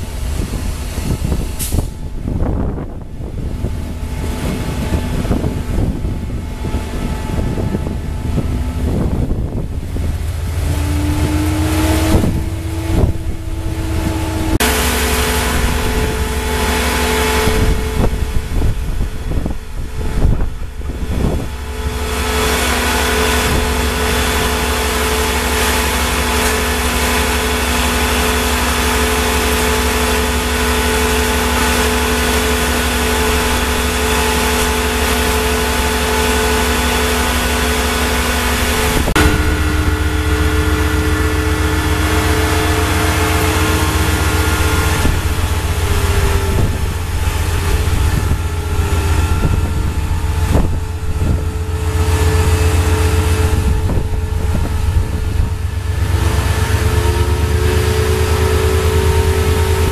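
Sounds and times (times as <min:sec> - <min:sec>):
approaching train engine: 0:00.0 - 0:59.9
diesel locomotive engine running: 0:00.0 - 0:59.9.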